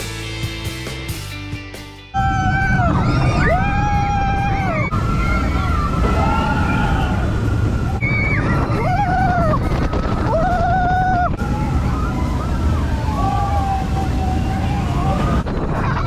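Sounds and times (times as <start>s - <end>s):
loud low rumble: 2.2s - 16.0s.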